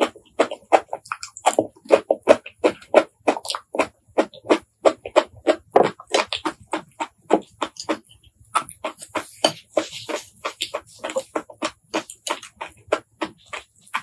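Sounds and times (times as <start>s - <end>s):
wet chewing smacks: 0.0s - 14.0s.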